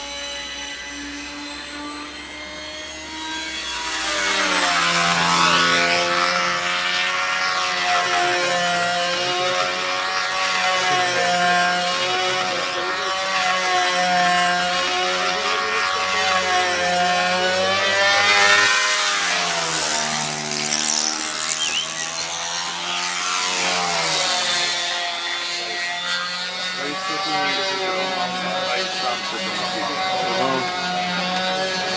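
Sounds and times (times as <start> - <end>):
model aircraft engine: 0.0 - 31.9.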